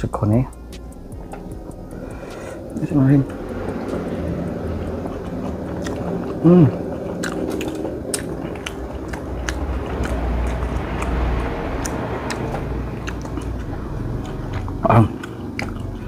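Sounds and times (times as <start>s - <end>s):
chewing with wet smacks: 0.0s - 16.0s
low rumble: 0.0s - 16.0s.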